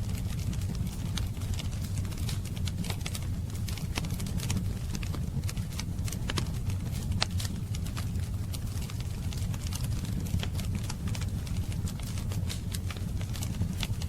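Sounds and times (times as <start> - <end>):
low rumble of burning fire: 0.0 - 14.0
wood fire popping and snapping: 0.0 - 14.0.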